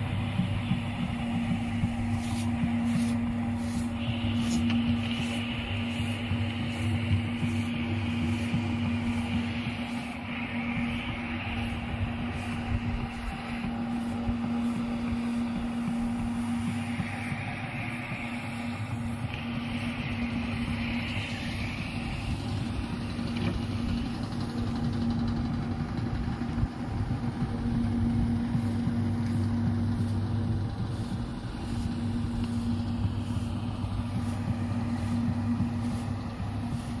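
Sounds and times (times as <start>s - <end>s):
motor humming: 0.0s - 37.0s.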